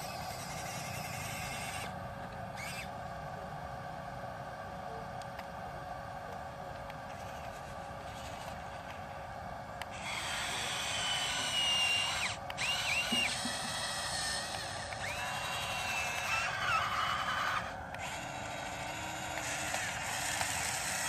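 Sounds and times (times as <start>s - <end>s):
electric motor hum: 0.0s - 21.0s
high-pitched motor whine: 0.0s - 21.0s.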